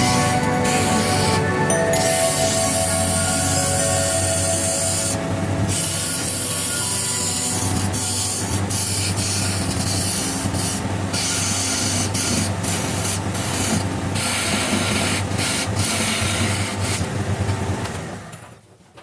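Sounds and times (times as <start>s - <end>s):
chisel hissing on wood: 0.0s - 17.0s
lathe motor hum: 0.0s - 17.5s.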